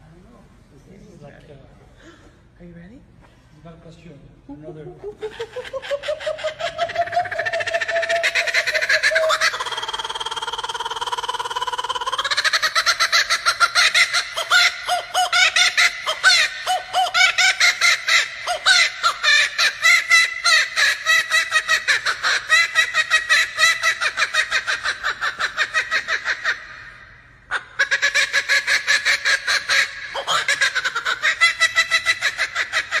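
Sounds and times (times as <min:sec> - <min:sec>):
kookaburra laughing call: 0:04.7 - 0:33.0.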